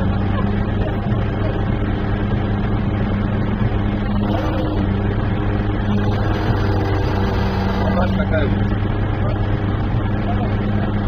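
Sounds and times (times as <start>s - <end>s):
crane engine running: 0.0s - 11.0s.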